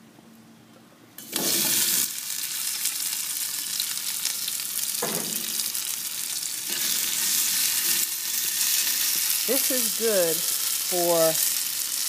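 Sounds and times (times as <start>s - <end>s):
potatoes sizzling in hot dish: 1.2s - 12.0s.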